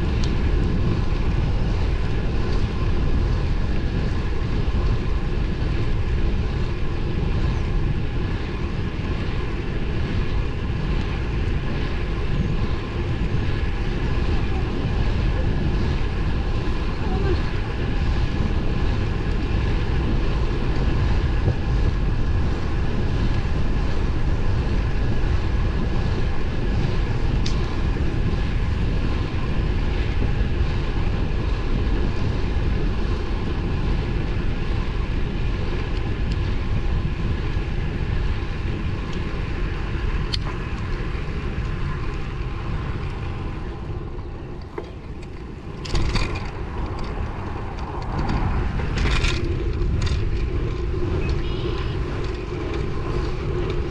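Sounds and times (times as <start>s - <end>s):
bike tyre and road noise: 0.0s - 53.9s
wind rushing over microphone: 0.0s - 53.9s.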